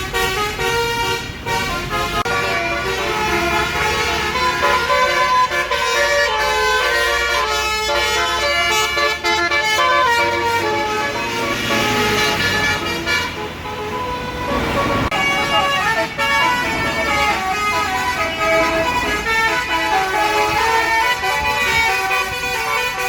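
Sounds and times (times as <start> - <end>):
bus engine running: 0.0 - 23.0
musical air horn playing a tune: 0.0 - 23.0.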